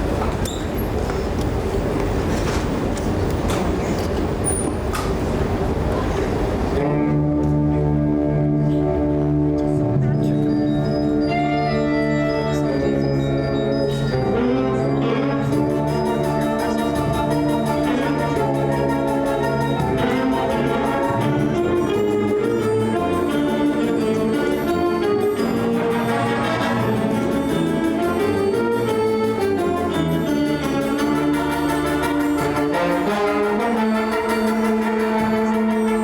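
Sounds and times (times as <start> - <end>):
school band playing: 6.8 - 36.0.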